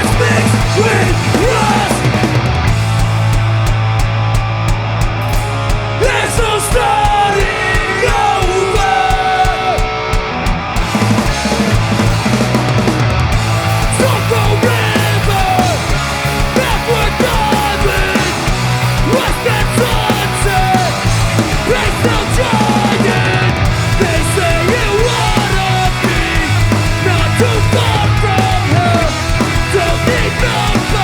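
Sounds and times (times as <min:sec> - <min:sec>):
punk band playing loud: 0:00.0 - 0:31.0.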